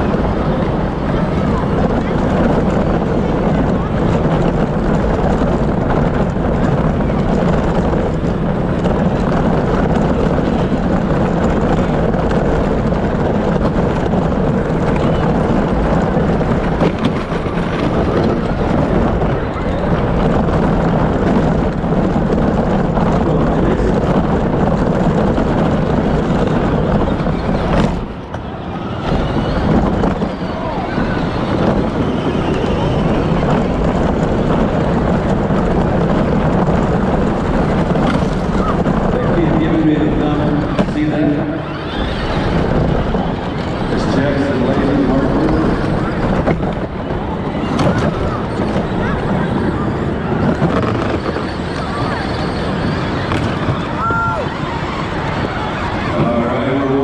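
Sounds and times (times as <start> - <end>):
toy car motors and wheels rumbling: 0.0 - 57.0.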